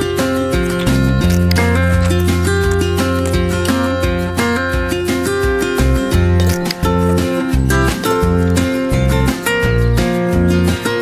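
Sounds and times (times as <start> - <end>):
steady bass line: 0.0 - 10.9
plucked guitar melody: 0.0 - 11.0.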